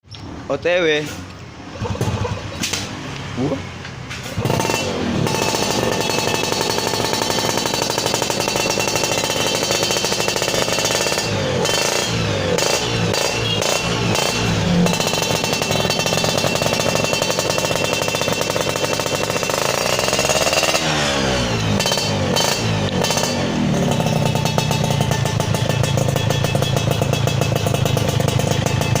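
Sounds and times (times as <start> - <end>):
two-stroke engine revving: 1.6 - 29.0.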